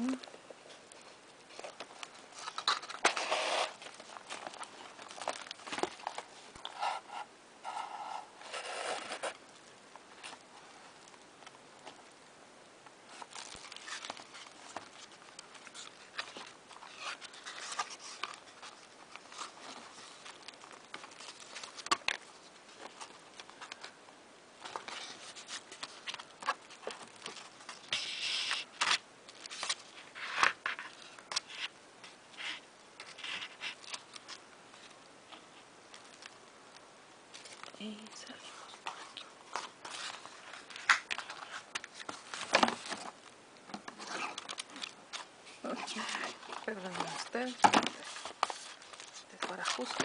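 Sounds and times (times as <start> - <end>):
paper rustling: 0.0 - 12.1, 13.1 - 50.0.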